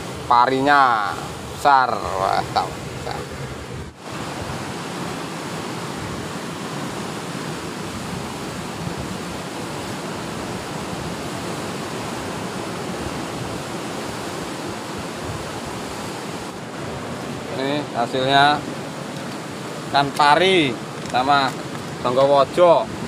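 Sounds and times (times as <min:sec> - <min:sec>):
surf washing against rocky shore: 0:00.0 - 0:23.0.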